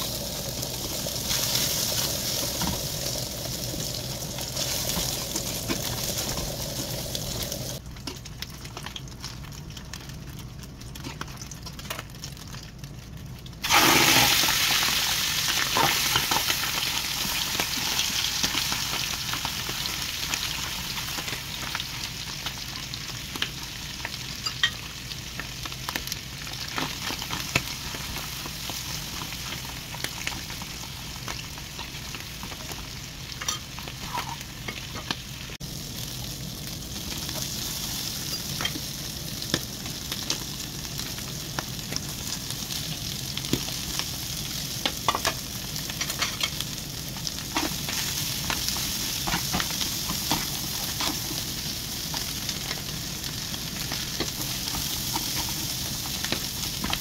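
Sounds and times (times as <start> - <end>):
fat sizzling in a pan: 0.0 - 7.8, 13.5 - 57.0
frying crackles: 0.0 - 57.0.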